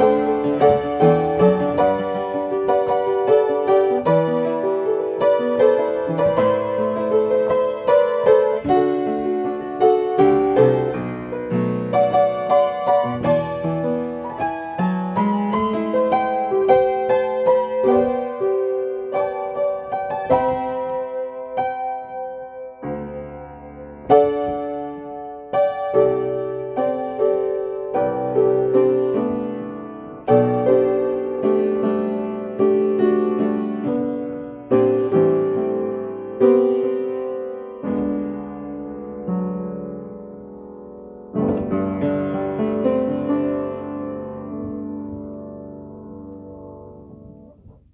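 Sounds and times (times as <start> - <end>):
upright piano playing: 0.0 - 47.9.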